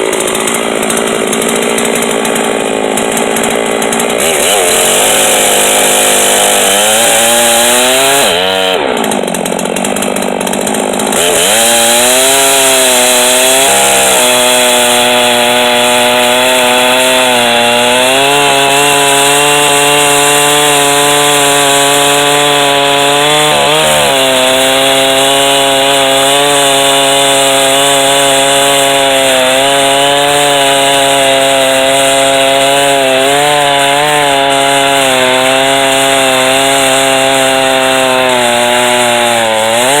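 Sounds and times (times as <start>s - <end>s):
chainsaw cutting log: 0.0s - 40.0s.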